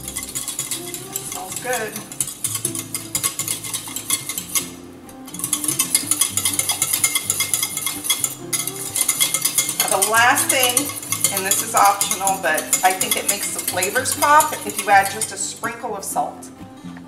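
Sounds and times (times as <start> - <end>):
whisk scraping a saucepan: 0.0 - 16.2.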